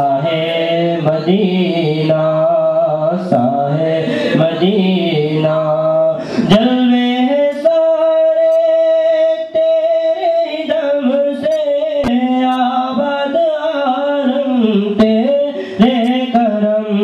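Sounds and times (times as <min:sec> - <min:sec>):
man chanting devotional song: 0:00.0 - 0:17.0.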